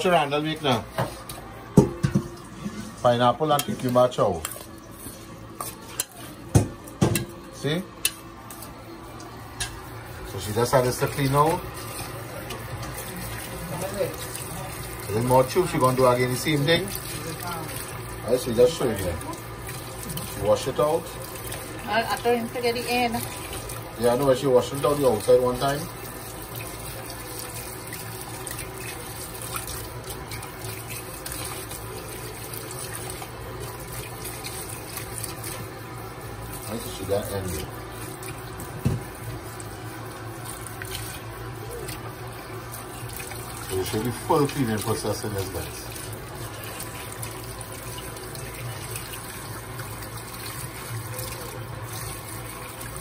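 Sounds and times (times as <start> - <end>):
tap running into basin of water: 0.6 - 53.0.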